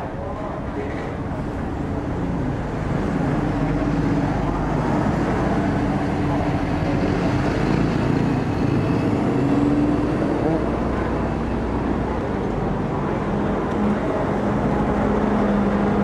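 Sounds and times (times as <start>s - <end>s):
heavy road traffic: 0.0s - 16.0s.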